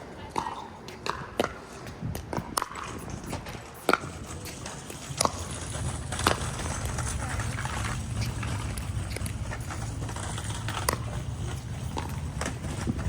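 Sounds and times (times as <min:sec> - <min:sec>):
wind rumble on microphone: 0:01.0 - 0:13.0.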